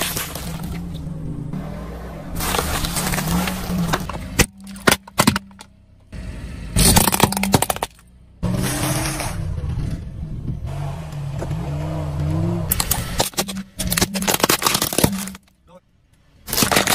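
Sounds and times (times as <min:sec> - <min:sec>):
car engine running low: 0:00.0 - 0:16.6.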